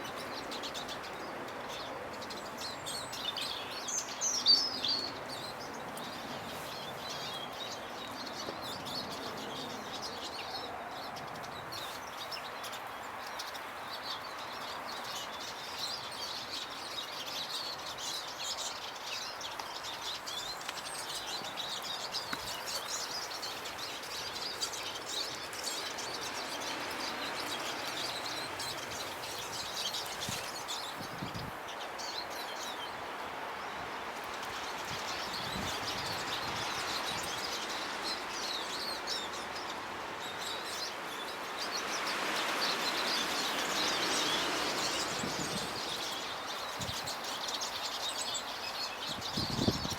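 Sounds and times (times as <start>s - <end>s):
steady background hiss: 0.0s - 49.8s
songbirds chirping and twittering: 0.0s - 49.9s.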